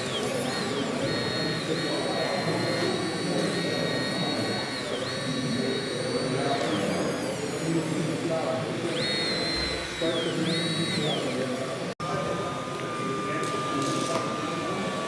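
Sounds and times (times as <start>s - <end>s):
crowd chatter: 0.0s - 15.0s
electric motor whine: 0.0s - 15.0s.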